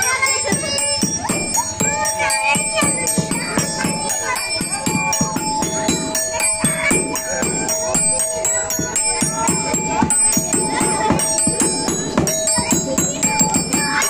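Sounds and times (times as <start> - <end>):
quick steady drum beat: 0.0 - 14.0.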